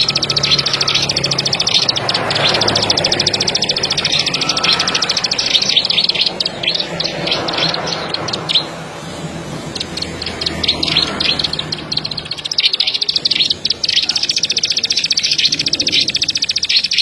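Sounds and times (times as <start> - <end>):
bird singing clicking trill: 0.0 - 8.9, 9.6 - 17.0.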